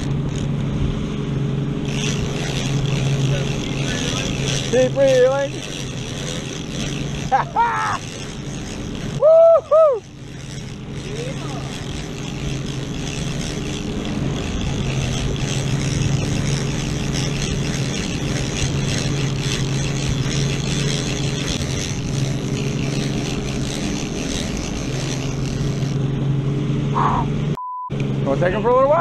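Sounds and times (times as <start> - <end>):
fishing reel gears ticking: 0.0 - 0.5, 1.8 - 26.1
boat engine drone: 0.0 - 29.0.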